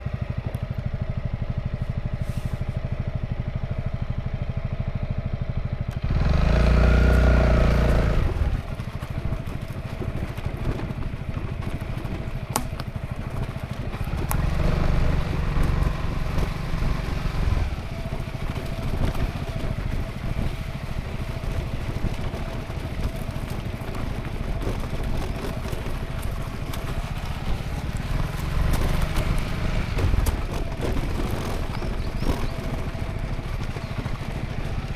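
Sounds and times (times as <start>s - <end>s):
scooter engine running: 0.0s - 34.9s.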